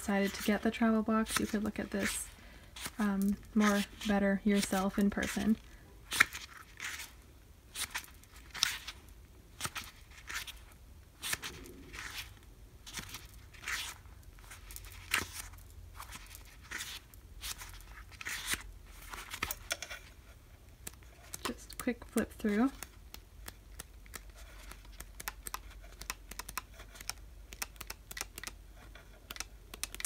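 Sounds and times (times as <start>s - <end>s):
paper pages turning: 1.2s - 9.0s, 9.6s - 30.0s.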